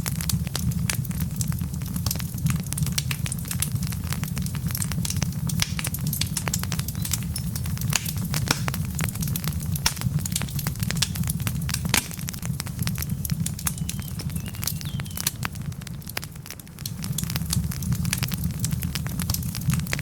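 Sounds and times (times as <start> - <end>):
burning wood popping and crackling: 0.0 - 20.0
low rumble of flames: 0.0 - 20.0.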